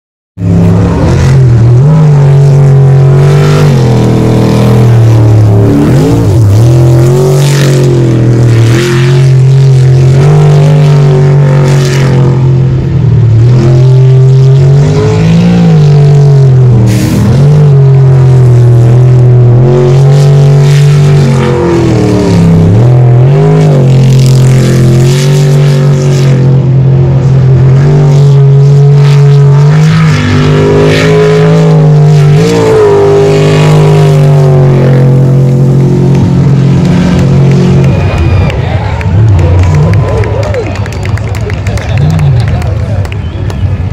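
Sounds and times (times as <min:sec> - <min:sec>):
boat racing engine revving: 0:00.4 - 0:43.9.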